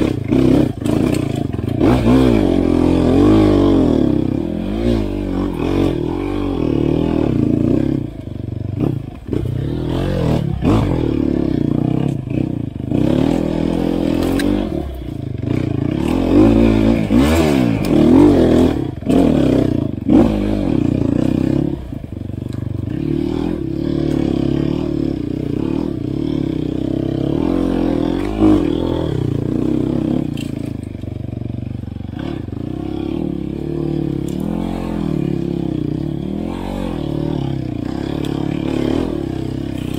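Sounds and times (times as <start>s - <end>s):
dirt bike engine revving: 0.0s - 39.9s
knocks and clatter from bike: 0.0s - 39.9s.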